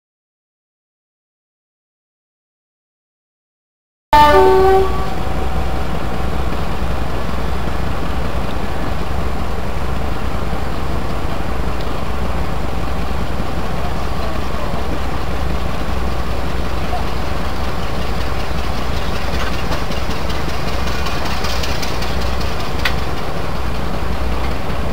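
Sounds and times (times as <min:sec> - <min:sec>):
locomotive diesel engines idling: 0:04.2 - 0:24.9.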